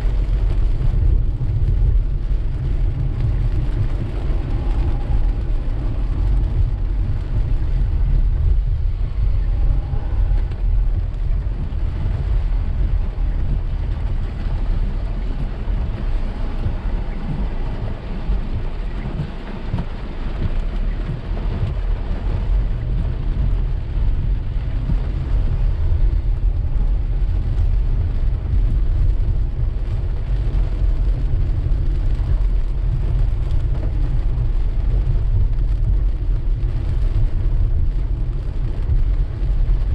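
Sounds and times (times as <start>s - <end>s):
car rumble while driving: 0.0s - 39.9s
rain hissing on car: 0.0s - 39.9s.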